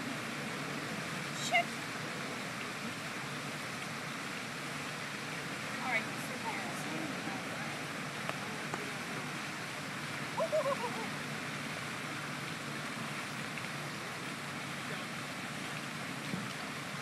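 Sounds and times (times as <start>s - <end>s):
rushing outdoor background noise: 0.0s - 17.0s.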